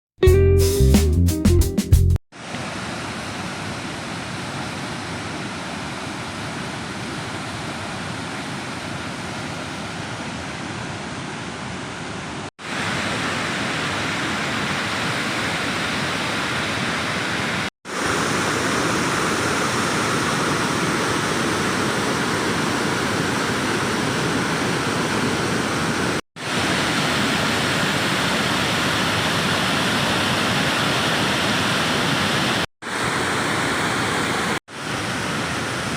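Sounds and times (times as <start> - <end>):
waterfall roaring: 2.4 - 35.9.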